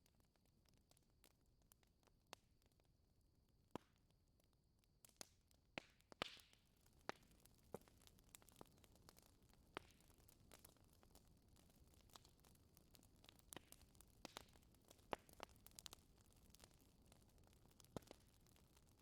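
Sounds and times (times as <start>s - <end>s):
wood fire crackling: 3.8s - 19.0s.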